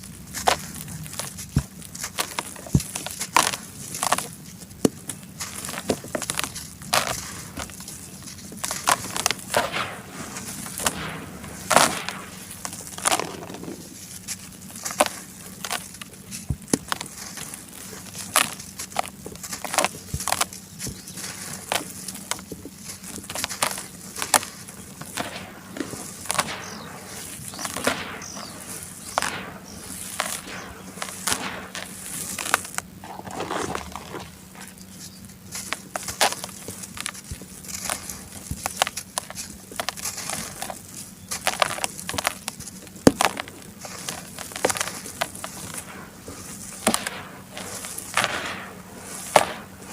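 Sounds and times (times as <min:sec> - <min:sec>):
charcoal crunching and crackling: 0:00.0 - 0:49.9
faint steady hum: 0:00.0 - 0:49.9.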